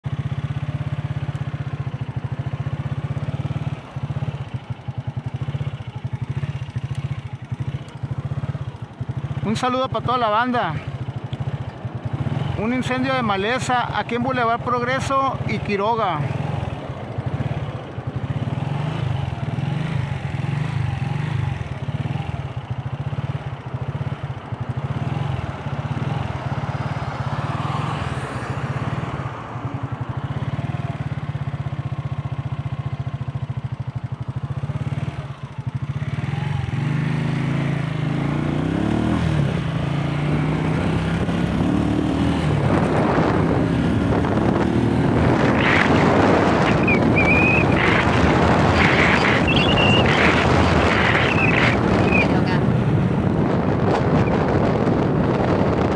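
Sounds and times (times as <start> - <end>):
vehicle engine idling and revving: 0.0 - 55.9.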